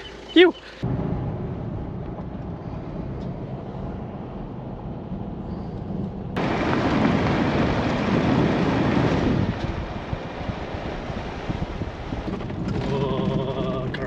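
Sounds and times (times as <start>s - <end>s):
car rumble on dirt road: 0.0s - 14.0s
wind buffeting: 0.0s - 14.0s.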